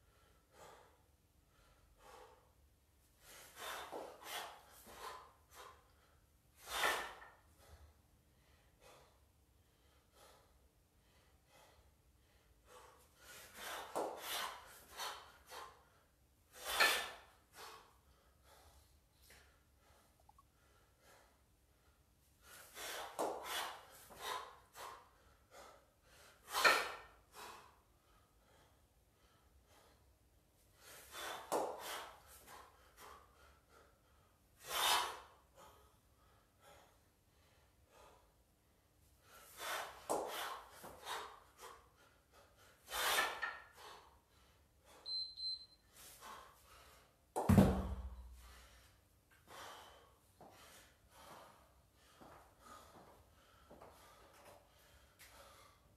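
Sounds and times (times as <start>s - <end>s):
man breathing hard: 0.0s - 45.0s, 46.0s - 47.3s, 48.0s - 55.9s.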